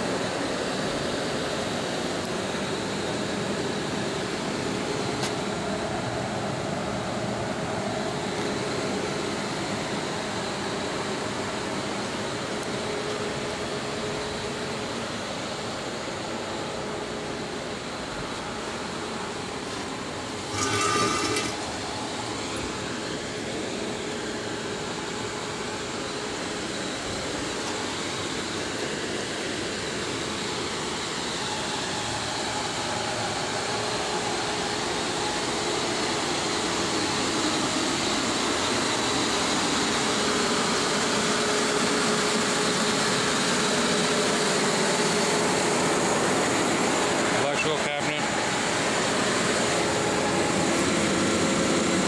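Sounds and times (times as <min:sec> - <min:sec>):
machine-shop machinery running: 0:00.0 - 0:52.0.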